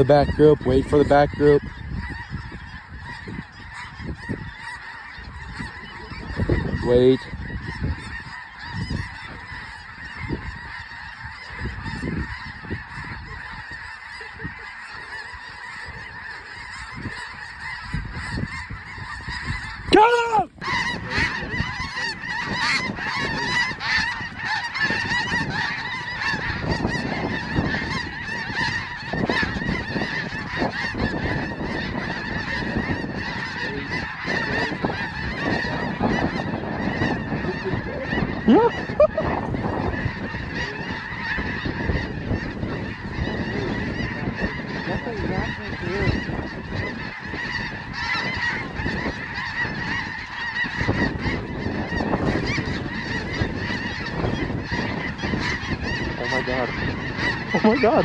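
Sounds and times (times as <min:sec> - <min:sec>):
flock of geese honking: 0:00.0 - 0:58.0
goose call rising in pitch: 0:02.0 - 0:58.0.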